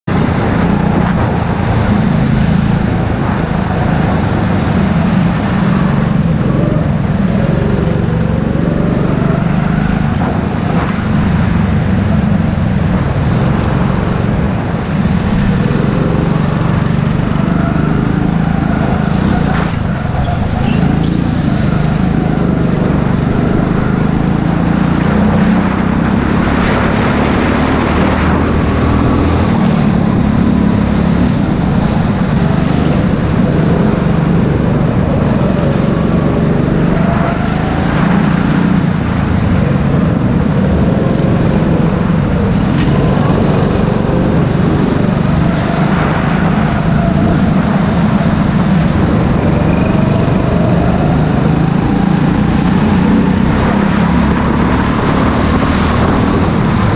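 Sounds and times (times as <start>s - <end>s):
go-kart engine running hard: 0.0s - 56.9s.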